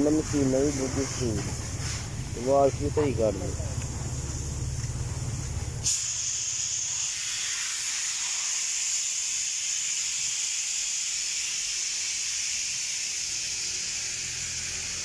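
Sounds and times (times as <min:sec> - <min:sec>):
high-pressure water jet hissing: 0:00.0 - 0:15.0.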